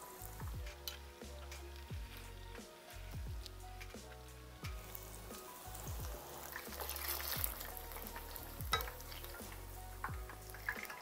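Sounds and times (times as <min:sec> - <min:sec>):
food deep-frying in sizzling oil: 0:00.0 - 0:11.0.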